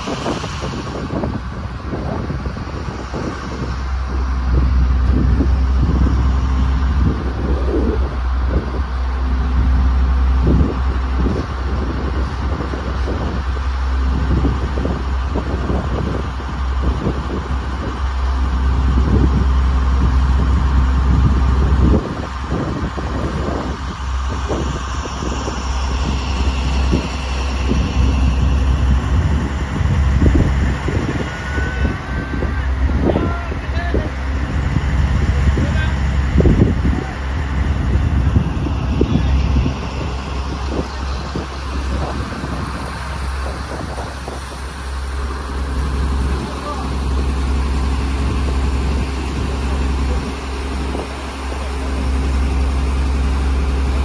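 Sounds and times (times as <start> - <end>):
boat engine droning: 0.0 - 54.0
wind buffeting microphone: 0.0 - 54.0.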